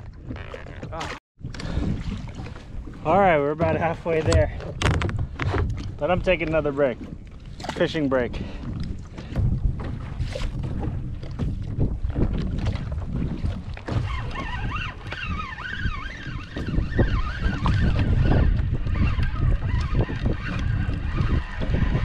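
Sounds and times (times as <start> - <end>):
water slapping against hull: 0.0 - 22.0
wind buffeting microphone: 0.0 - 22.0.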